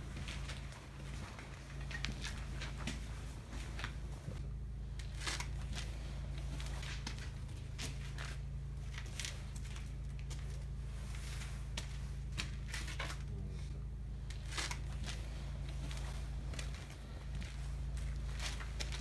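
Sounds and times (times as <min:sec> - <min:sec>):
rustling: 0:00.0 - 0:19.0
steady low hum: 0:00.0 - 0:19.0.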